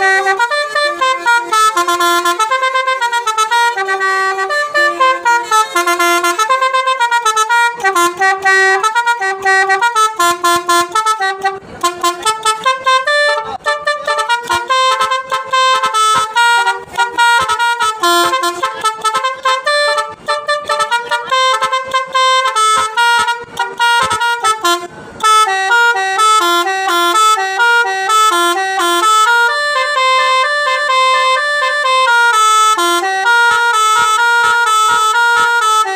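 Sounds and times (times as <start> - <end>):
musical air horn tune: 0.0 - 35.9.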